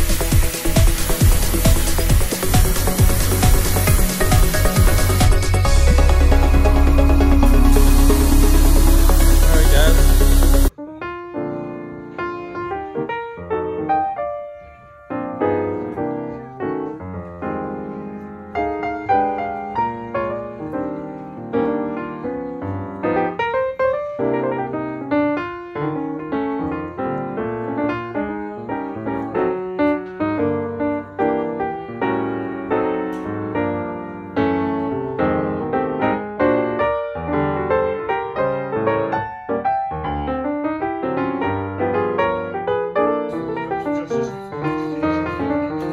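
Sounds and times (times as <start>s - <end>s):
piano music: 0.0s - 45.9s.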